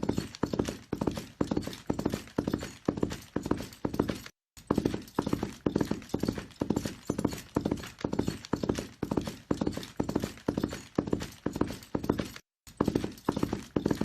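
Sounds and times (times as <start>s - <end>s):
horse hooves galloping: 0.0s - 14.0s.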